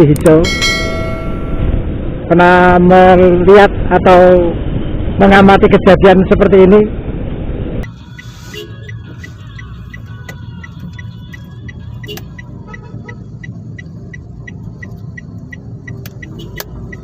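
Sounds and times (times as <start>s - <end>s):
low rumble of engines: 0.0s - 17.0s.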